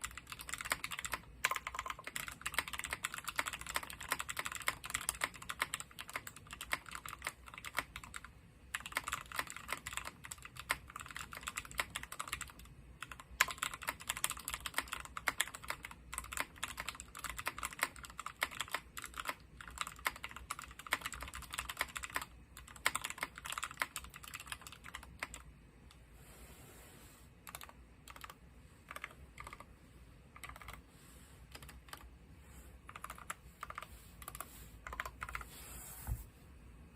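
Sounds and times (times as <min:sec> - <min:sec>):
mechanical keyboard typing: 0:00.0 - 0:25.5, 0:27.4 - 0:29.7, 0:30.3 - 0:30.8, 0:31.5 - 0:32.1, 0:32.9 - 0:35.4.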